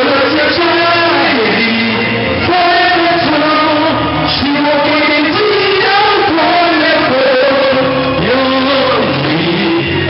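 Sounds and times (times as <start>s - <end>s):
backing music: 0.0s - 10.0s
man singing karaoke: 0.0s - 10.0s.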